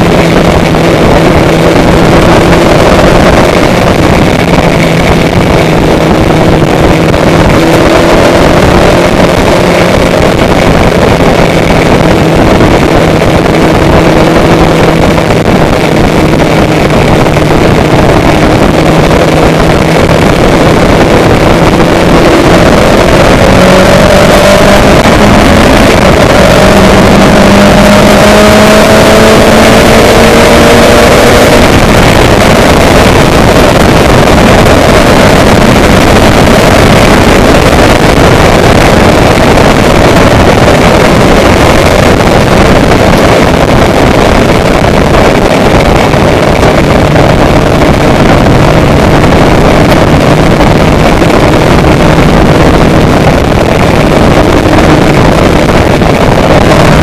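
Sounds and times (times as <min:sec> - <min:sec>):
loud steady engine noise: 0:00.0 - 0:57.0.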